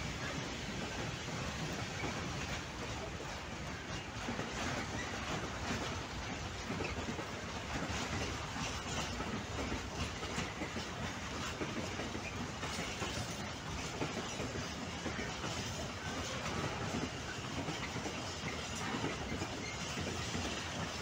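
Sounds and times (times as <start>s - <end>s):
train wheels rumbling on rails: 0.0s - 21.0s
wheels clicking over rail joints: 0.0s - 21.0s.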